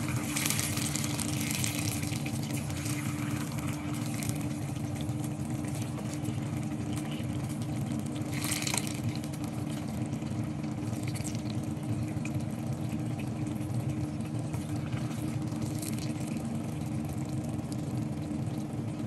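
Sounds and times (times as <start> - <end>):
low hum: 0.0 - 18.3
sauce bubbling and sizzling: 0.0 - 19.0.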